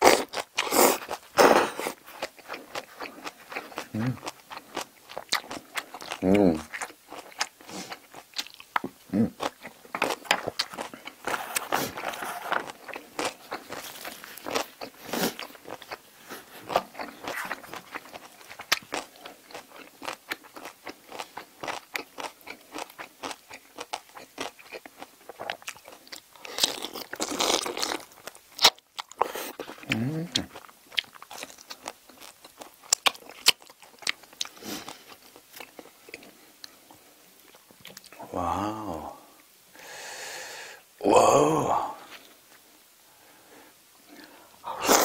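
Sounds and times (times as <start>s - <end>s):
crunchy chewing: 0.0s - 38.2s.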